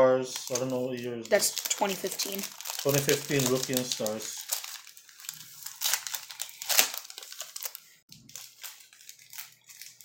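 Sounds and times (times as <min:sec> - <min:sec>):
plastic wrapper crinkling: 0:00.3 - 0:10.0.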